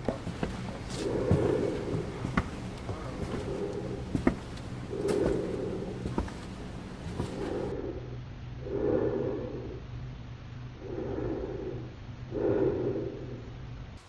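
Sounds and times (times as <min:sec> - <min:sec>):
slow heavy breaths: 0:00.0 - 0:08.0, 0:08.6 - 0:09.8, 0:10.8 - 0:13.5
low steady hum: 0:00.0 - 0:14.0.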